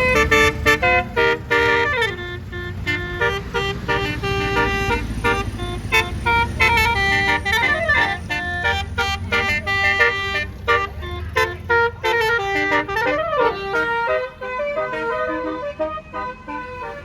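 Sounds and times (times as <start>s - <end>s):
bus air horn melody: 0.0s - 17.0s
low engine rumble: 0.0s - 17.0s.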